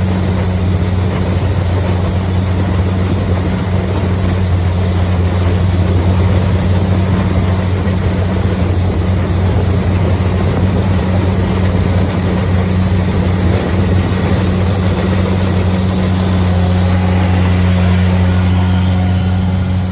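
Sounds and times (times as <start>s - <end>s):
harvester engine drone: 0.0s - 19.9s
machinery clatter: 0.0s - 19.9s.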